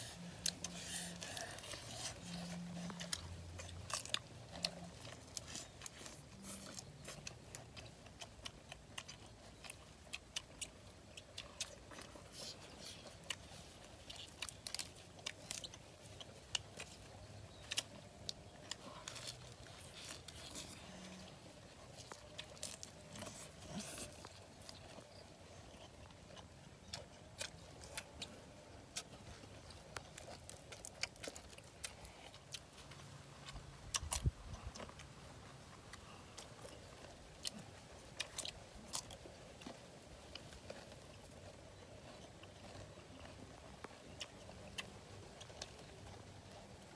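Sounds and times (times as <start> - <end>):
people chewing and crunching: 0.0 - 46.9.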